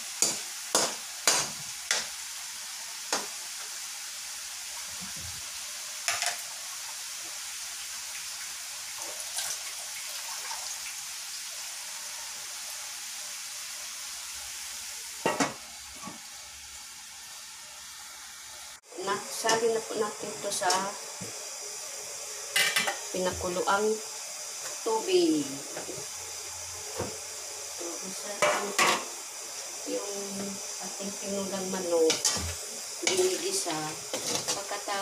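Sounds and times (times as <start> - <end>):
chicken sizzling in a wok: 0.0 - 35.0.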